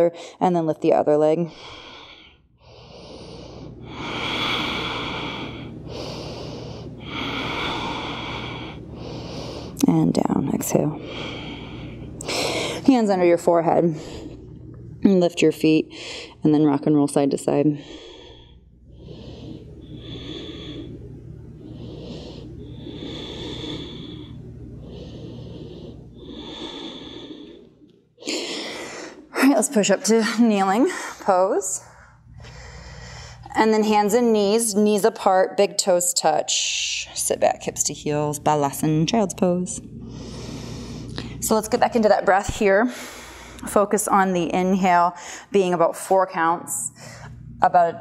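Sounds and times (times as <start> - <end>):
woman breathing: 0.1 - 0.4, 1.4 - 9.9, 10.5 - 13.0, 13.7 - 14.8, 15.9 - 16.5, 17.4 - 34.9, 39.7 - 47.6.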